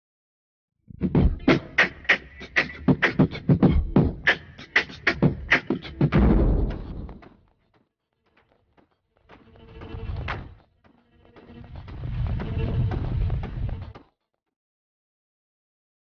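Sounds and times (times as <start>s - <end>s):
beatbox-like clicks and thumps: 0.9s - 14.1s.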